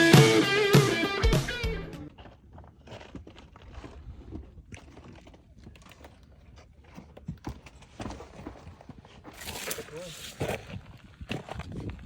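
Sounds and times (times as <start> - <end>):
footsteps on stony trail: 2.0 - 12.0.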